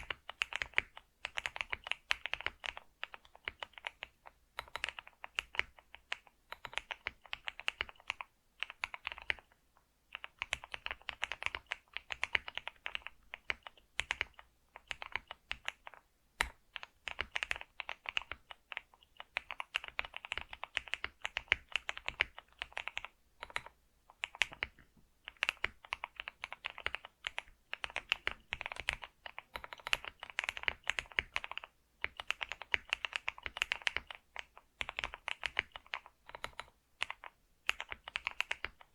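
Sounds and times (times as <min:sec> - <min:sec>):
computer keyboard typing: 0:00.0 - 0:38.9.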